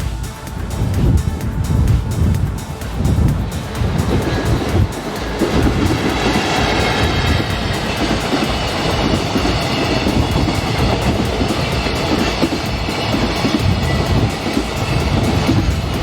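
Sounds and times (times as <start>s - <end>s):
freight train passing: 0.0s - 16.0s
wind buffeting microphone: 0.0s - 16.0s.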